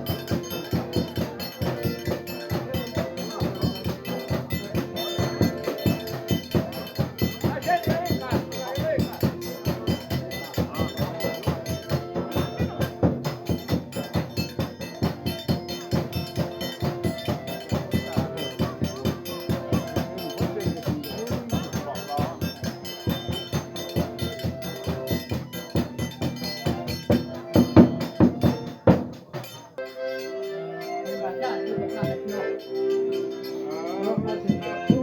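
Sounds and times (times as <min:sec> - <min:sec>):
fast percussion beat: 0:00.0 - 0:29.8, 0:31.8 - 0:35.0
held melodic notes: 0:00.0 - 0:35.0.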